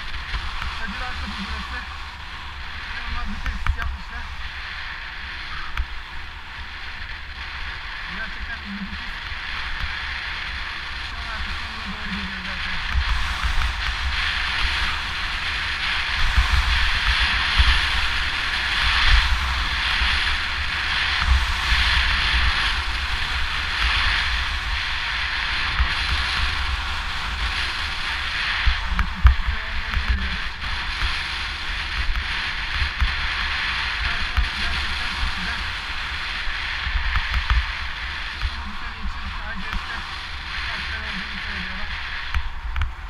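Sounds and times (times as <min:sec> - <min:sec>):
skis scraping over packed snow: 0:00.0 - 0:43.0
wind buffeting microphone: 0:00.0 - 0:43.0.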